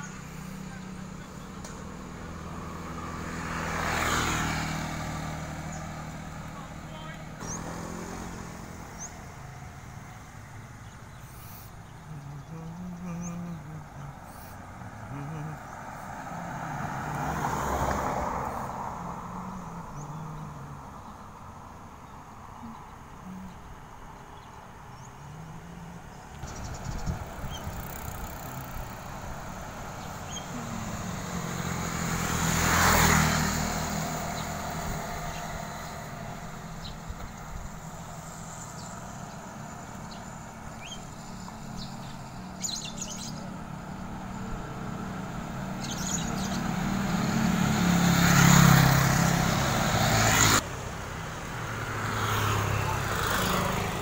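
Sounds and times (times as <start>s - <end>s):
birds chirping: 0.0s - 50.6s
distant traffic hum: 0.0s - 54.0s
motor vehicle passing: 0.0s - 54.0s.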